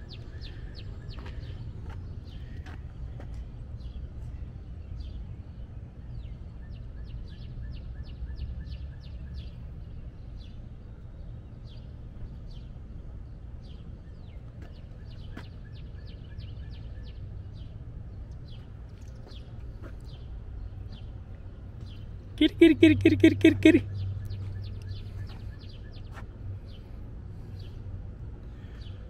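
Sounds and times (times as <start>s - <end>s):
songbird chirping: 0.0s - 2.9s, 3.8s - 27.8s.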